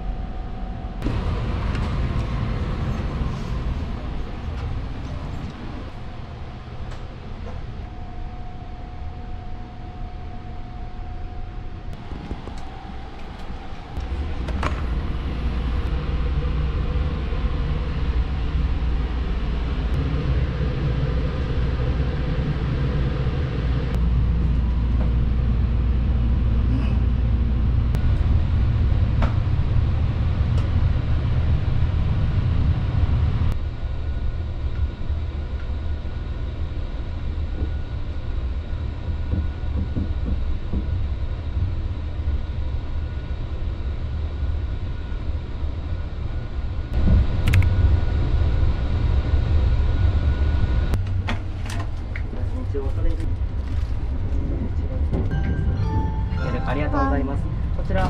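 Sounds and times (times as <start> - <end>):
train interior rumble: 0.0 - 58.0.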